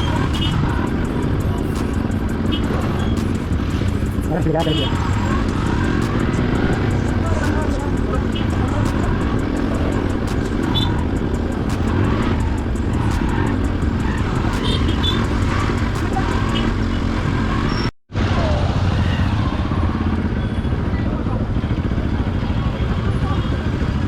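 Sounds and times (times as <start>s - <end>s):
motorcycle engine running: 0.0s - 24.0s
road and wind noise: 0.0s - 24.0s.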